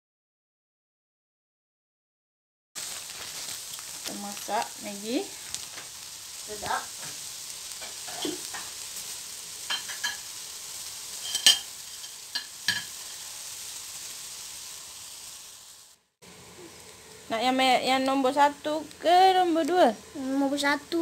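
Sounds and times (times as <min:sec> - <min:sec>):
noodles sizzling in wok: 0:02.8 - 0:21.0.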